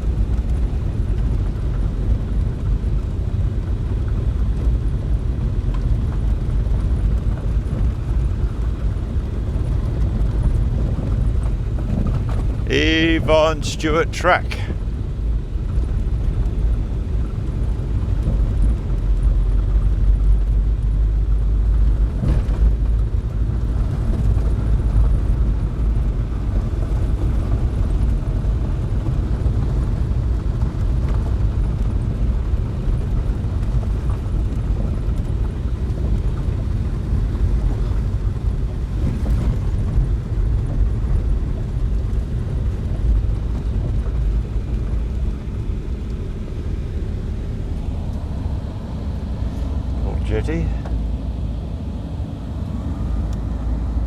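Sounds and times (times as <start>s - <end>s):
vehicle engine and tyres rumbling: 0.0s - 12.6s, 14.6s - 54.0s.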